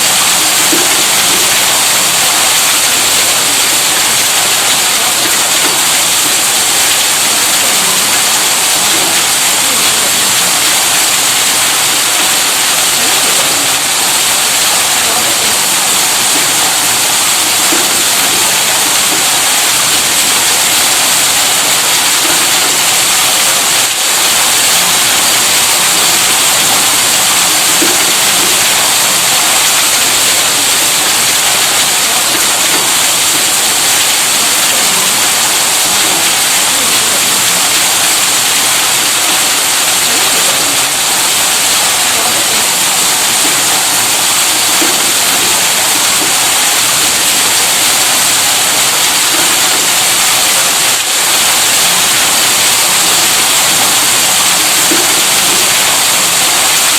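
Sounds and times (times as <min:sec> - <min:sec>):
electric pump motor running: 0:00.0 - 0:56.9.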